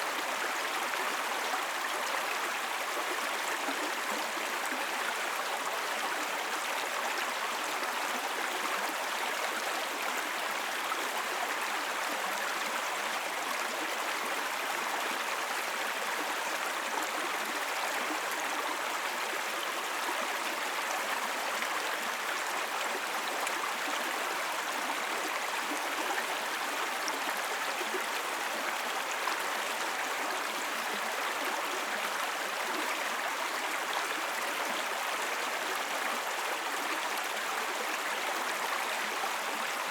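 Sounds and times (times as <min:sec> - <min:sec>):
brook water burbling over stones: 0:00.0 - 0:39.9.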